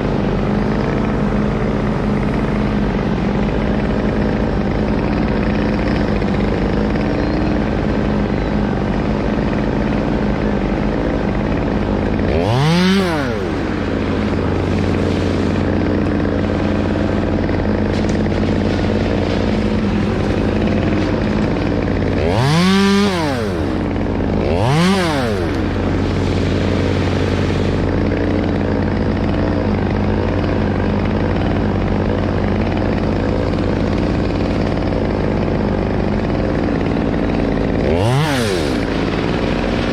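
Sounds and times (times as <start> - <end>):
chainsaw engine idling and revving: 0.0 - 39.9.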